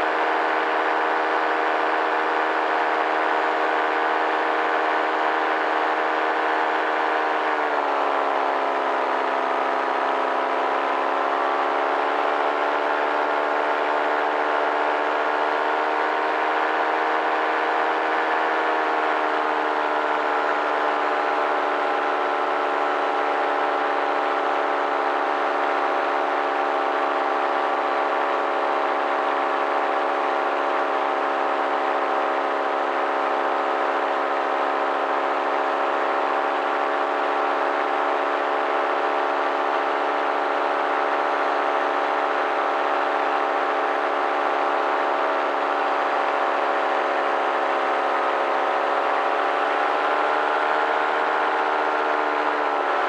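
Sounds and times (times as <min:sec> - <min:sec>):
paramotor engine drone: 0:00.0 - 0:53.0.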